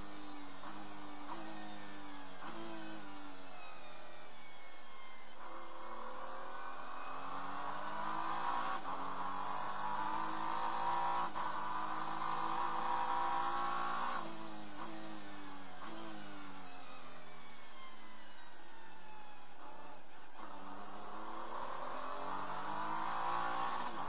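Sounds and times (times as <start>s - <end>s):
gear upshifts: 0.0s - 24.0s
race car engine accelerating: 0.0s - 24.0s.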